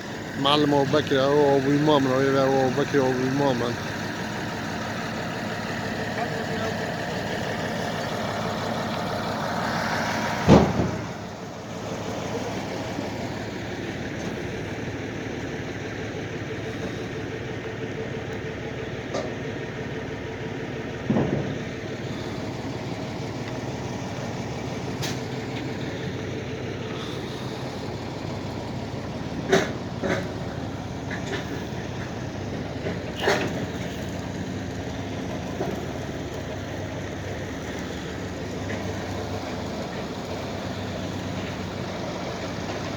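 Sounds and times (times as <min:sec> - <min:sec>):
heavy engine idling: 0:00.0 - 0:42.9.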